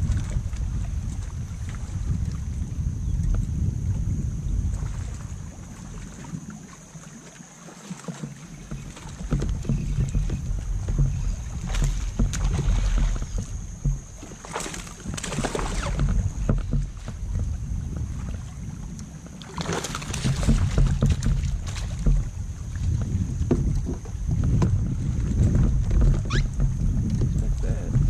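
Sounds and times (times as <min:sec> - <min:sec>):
paddle strokes splashing: 0:00.0 - 0:28.0
water sloshing against hull: 0:00.0 - 0:28.0.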